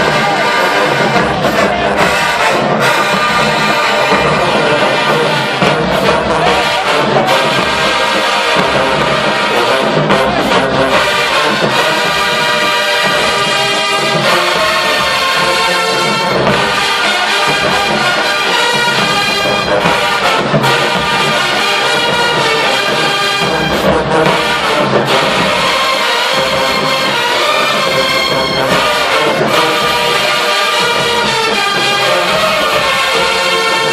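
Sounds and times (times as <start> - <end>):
drums: 0.0 - 33.9
marching band brass: 0.0 - 33.9.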